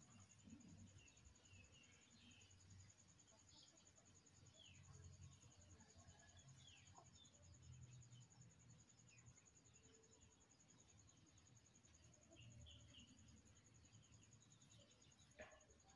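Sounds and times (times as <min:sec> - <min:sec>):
faint bird chirps: 0:00.0 - 0:15.9.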